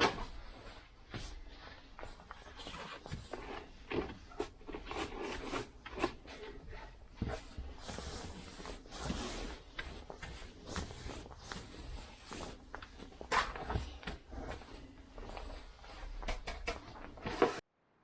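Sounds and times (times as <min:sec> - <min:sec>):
rubbing and scraping: 0:00.0 - 0:17.6.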